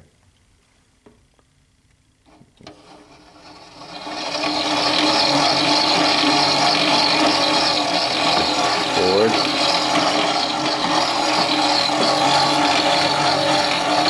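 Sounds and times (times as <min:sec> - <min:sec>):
electric motors whirring: 0:02.3 - 0:14.0.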